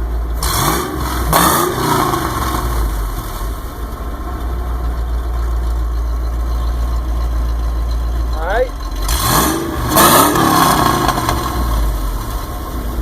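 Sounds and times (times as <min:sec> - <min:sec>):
truck engine revving and idling: 0:00.0 - 0:13.0.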